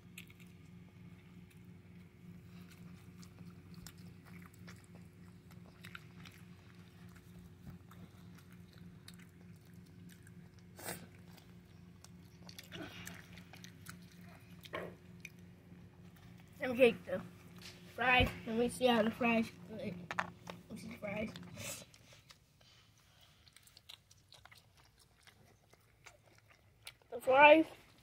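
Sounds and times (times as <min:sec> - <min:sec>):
child chewing: 0:00.0 - 0:16.7, 0:18.7 - 0:28.0
faint low hum: 0:00.0 - 0:28.0.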